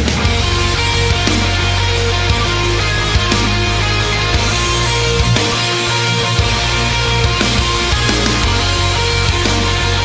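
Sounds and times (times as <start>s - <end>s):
heavy metal rock music: 0.0s - 10.0s.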